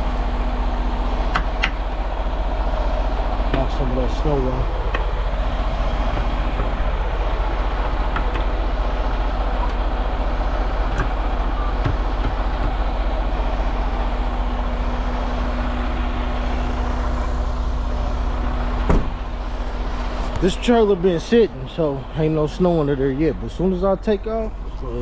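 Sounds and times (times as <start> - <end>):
diesel truck engine idling: 0.0 - 25.0
steady hum: 0.0 - 25.0.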